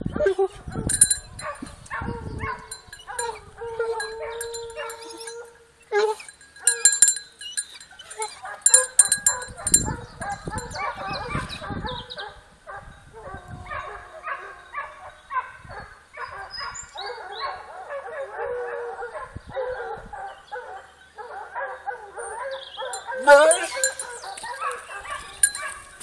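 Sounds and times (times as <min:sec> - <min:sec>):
hounds baying: 0:00.5 - 0:26.0.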